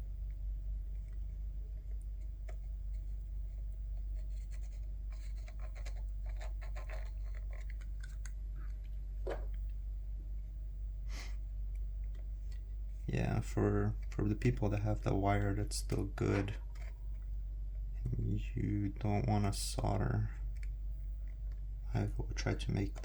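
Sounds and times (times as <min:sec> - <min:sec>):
light scratching of plastic parts: 0:00.0 - 0:18.4, 0:19.8 - 0:23.0
steady low hum: 0:00.0 - 0:23.0.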